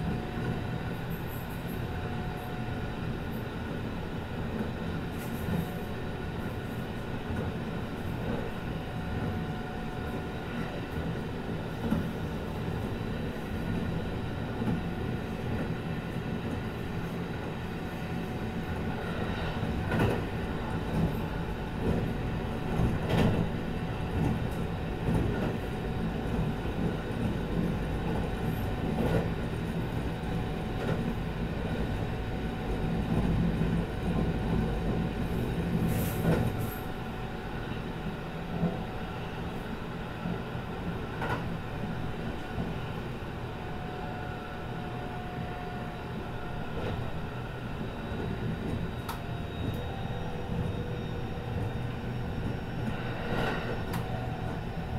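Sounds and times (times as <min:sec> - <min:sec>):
train running noise: 0:00.0 - 0:54.9.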